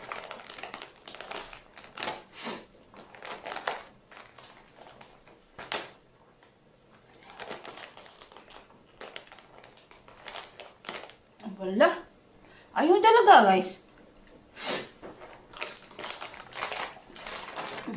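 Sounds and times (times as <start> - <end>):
crinkling and crackling: 0.0 - 11.6, 13.9 - 17.9.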